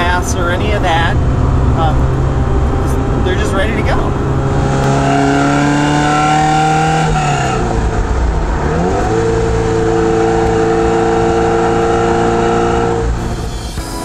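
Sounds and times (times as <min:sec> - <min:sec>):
car engine running: 0:00.0 - 0:13.8.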